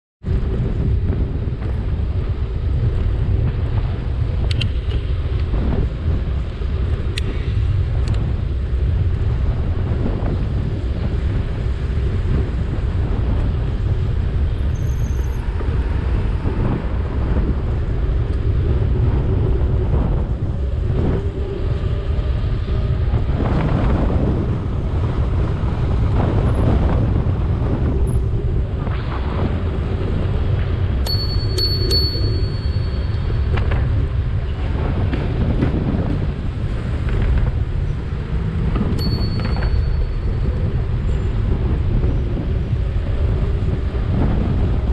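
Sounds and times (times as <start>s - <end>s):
road traffic: 0.2s - 44.9s
wind on microphone: 0.2s - 44.9s.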